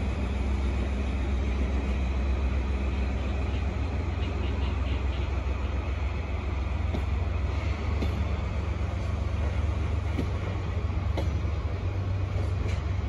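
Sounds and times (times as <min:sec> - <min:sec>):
diesel locomotive droning: 0:00.0 - 0:13.0
freight train rolling on rails: 0:00.0 - 0:13.0.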